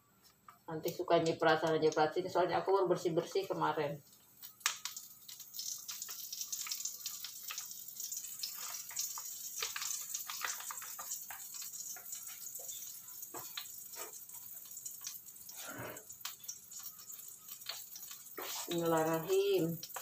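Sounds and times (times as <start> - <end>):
oil sizzling and popping in a wok: 4.0 - 20.0.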